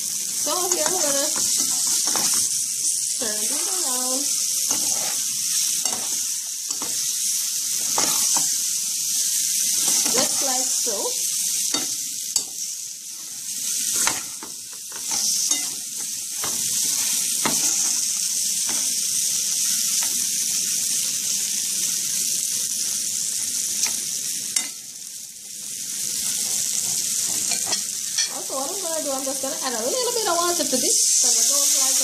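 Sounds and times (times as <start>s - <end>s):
prawns sizzling in oil: 0.0s - 32.0s.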